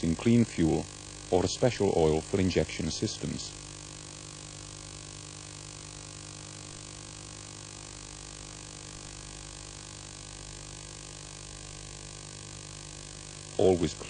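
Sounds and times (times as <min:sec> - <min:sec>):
steady tonal hum: 0:00.0 - 0:14.0.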